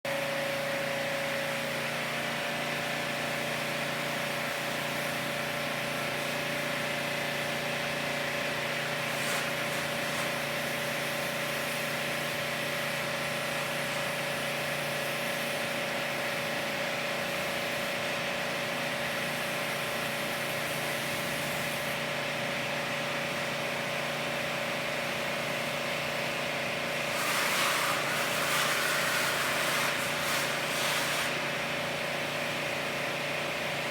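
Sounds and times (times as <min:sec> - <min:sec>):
machine hum with whine: 0:00.1 - 0:33.9.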